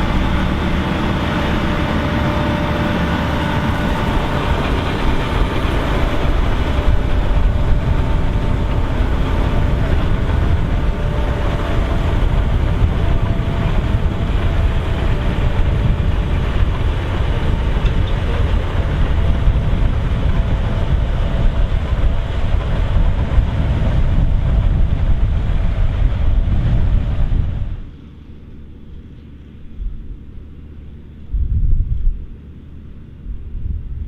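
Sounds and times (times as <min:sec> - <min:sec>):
harvester machinery running: 0:00.0 - 0:34.0
tractor engine running: 0:00.0 - 0:34.0.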